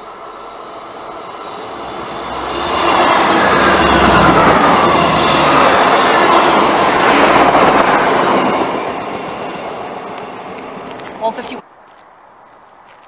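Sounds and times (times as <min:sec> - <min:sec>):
train passing at speed: 0:00.0 - 0:11.7.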